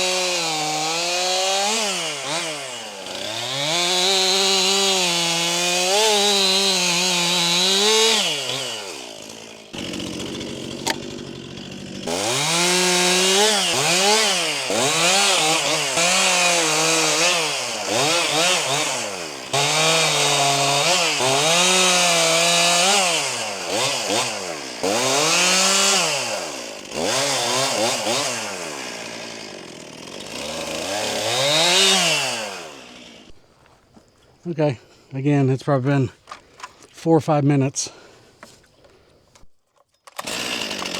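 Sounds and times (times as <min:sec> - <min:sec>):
chainsaw revving: 0:00.0 - 0:33.4, 0:40.2 - 0:40.9.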